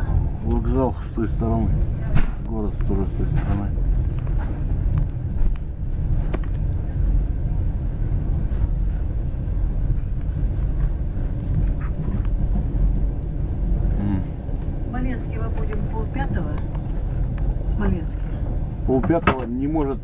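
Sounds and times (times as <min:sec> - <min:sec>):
train rumbling inside carriage: 0:00.0 - 0:20.0.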